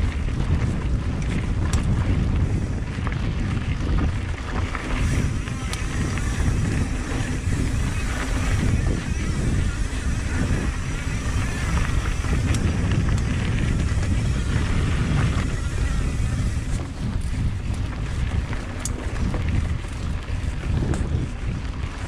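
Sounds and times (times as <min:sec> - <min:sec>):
tyres rumbling on dirt: 0:00.0 - 0:22.0
wind buffeting microphone: 0:00.0 - 0:22.0.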